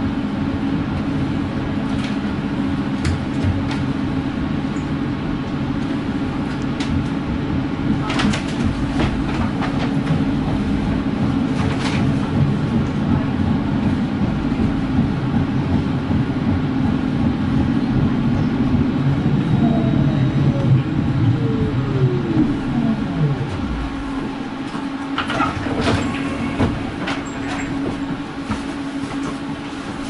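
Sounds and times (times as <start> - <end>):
tram rolling hum: 0.0 - 30.0
wheels clicking on rails: 5.8 - 30.0.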